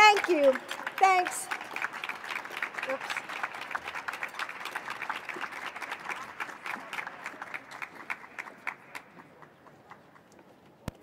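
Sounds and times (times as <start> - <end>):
small audience applauding: 0.0 - 10.2.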